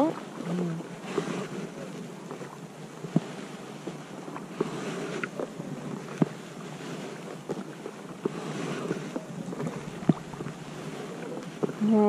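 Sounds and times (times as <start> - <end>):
flowing river hiss: 0.0 - 12.0
water lapping against kayak hull: 0.0 - 12.0.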